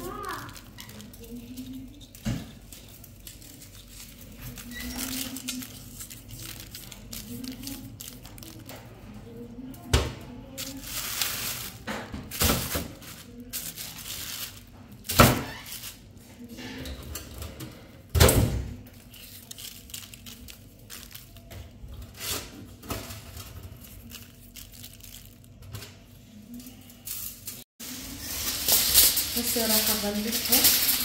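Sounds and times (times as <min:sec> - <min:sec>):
plastic bag crinkling: 0:00.0 - 0:16.0, 0:18.9 - 0:25.6, 0:27.5 - 0:31.0.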